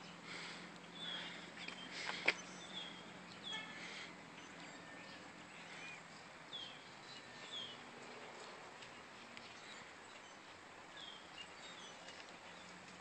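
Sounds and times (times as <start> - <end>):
birds chirping: 0.0 - 13.0
faint background noise: 0.0 - 13.0.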